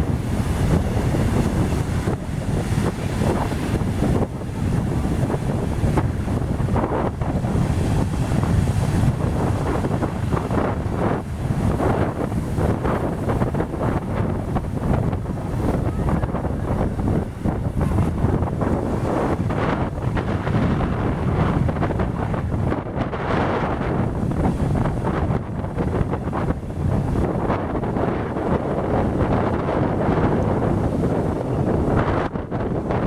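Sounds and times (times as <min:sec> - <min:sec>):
large waves rushing: 0:00.0 - 0:33.0
wind buffeting microphone: 0:00.0 - 0:33.0.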